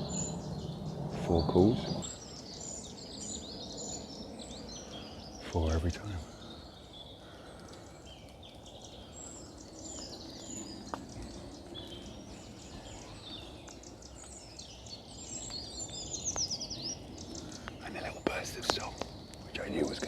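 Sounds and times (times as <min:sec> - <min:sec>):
high thin bird song: 0:00.0 - 0:20.0
other birdsong: 0:00.0 - 0:20.0.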